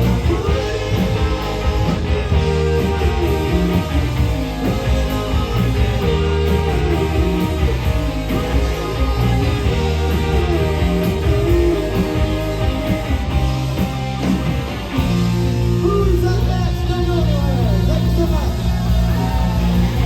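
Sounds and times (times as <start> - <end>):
electric guitar: 0.0 - 20.0
live rock band playing: 0.0 - 20.0.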